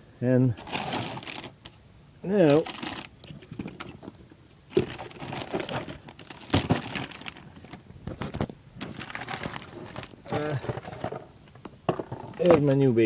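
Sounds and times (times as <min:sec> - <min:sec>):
packaging rustling and crinkling: 0:00.6 - 0:01.8, 0:02.4 - 0:12.8.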